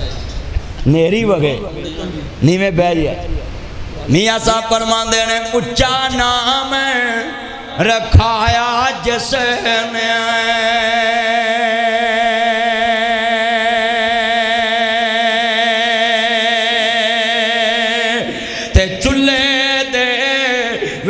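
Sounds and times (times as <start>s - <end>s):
man chanting through amplifier: 1.0s - 21.0s.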